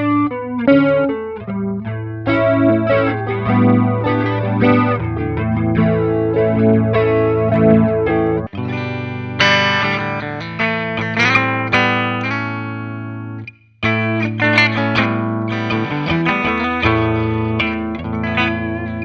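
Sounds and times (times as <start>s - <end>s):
electric guitar through amplifier: 0.0s - 19.0s.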